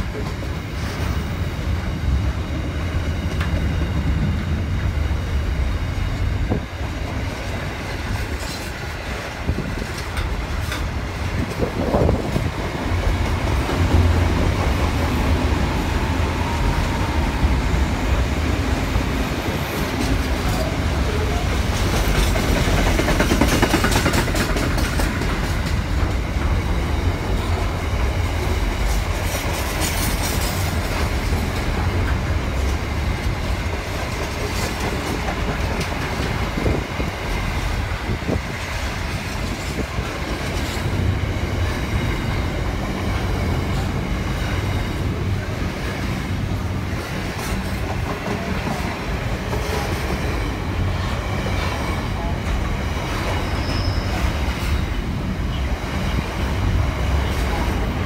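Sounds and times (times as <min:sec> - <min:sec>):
freight train wheels rumbling on rails: 0:00.0 - 0:58.0
wheels clacking over rail joints: 0:03.1 - 0:58.0.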